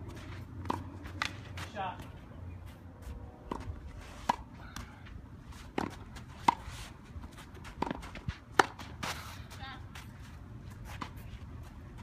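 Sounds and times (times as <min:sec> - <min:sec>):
tennis rackets hitting balls: 0:00.0 - 0:02.2, 0:03.1 - 0:12.0.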